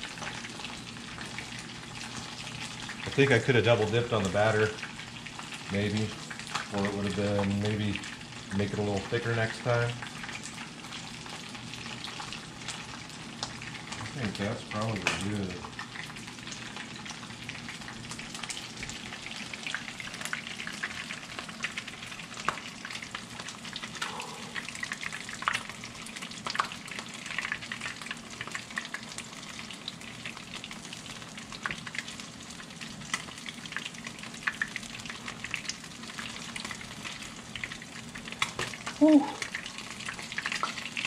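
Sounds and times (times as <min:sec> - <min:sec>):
fish frying in hot oil: 0:00.0 - 0:41.0.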